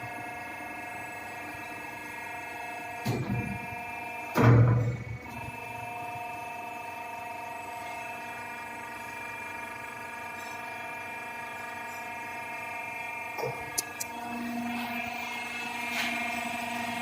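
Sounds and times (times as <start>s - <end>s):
machine motor steady whine: 0.0s - 17.0s.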